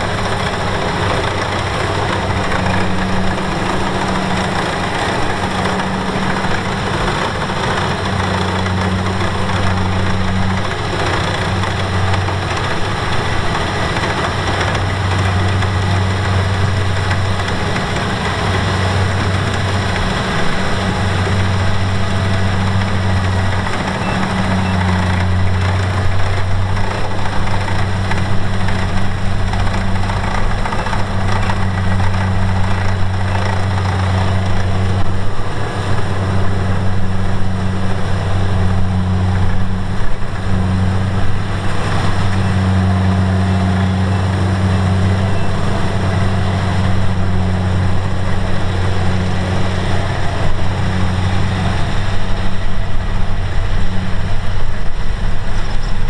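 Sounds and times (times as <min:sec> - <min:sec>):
combine harvester diesel engine: 0:00.0 - 0:56.0.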